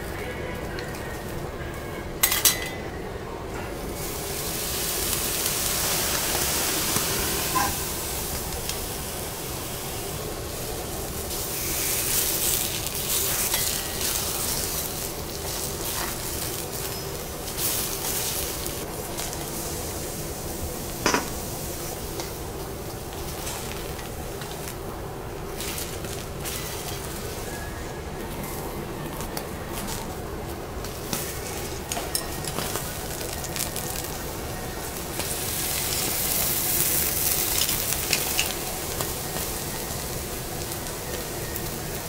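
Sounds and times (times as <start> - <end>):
food sizzling on griddle: 3.8 - 42.0.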